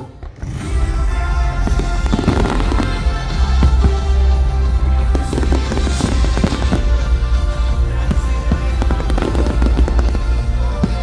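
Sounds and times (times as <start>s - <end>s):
firework bangs and crackles: 0.0s - 11.0s
music with heavy bass: 0.0s - 11.0s.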